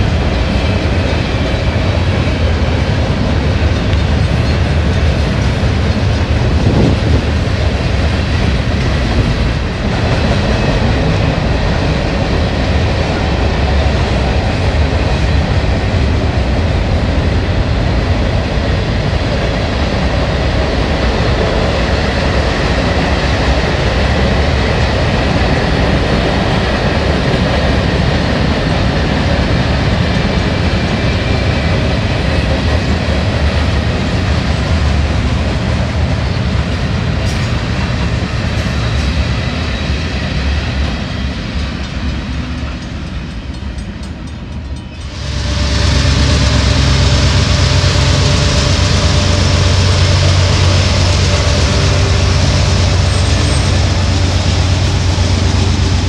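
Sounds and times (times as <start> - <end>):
diesel locomotives droning: 0.0 - 56.0
freight cars rolling on rails: 0.0 - 56.0.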